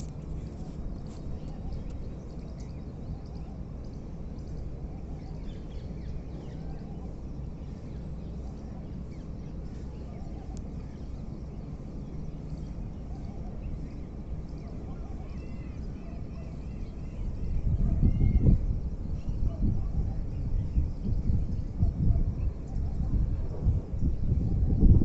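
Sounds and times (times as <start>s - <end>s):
steady low rumble: 0.0s - 25.0s
faint bird chirps: 0.3s - 23.2s.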